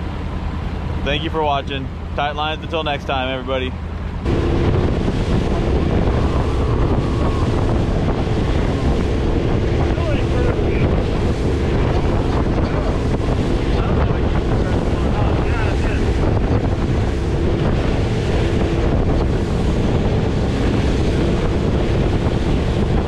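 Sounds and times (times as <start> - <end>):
boat engine humming: 0.0 - 23.0
rushing water: 0.0 - 23.0
wind buffeting microphone: 0.0 - 23.0.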